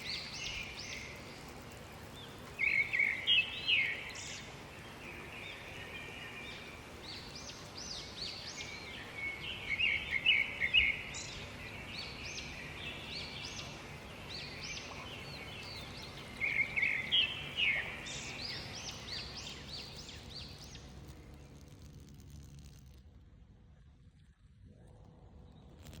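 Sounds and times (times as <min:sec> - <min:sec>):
songbirds chirping and singing: 0:00.0 - 0:21.6
faint outdoor background: 0:00.0 - 0:26.0.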